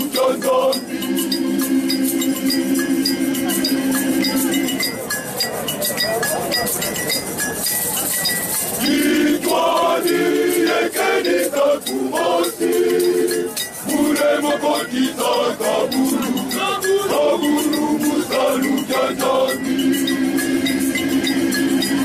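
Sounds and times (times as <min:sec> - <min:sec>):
male choir singing: 0:00.0 - 0:04.7, 0:08.8 - 0:22.0
hand rattle shaking: 0:00.0 - 0:22.0.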